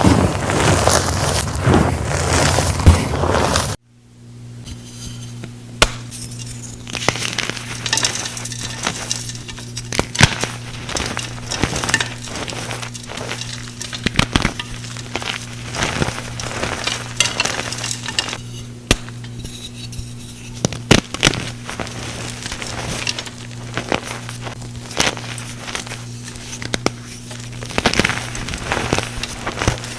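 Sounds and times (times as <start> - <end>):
chalk crunching and cracking: 0.0 - 3.8, 6.1 - 29.9
steady low hum: 0.0 - 29.9.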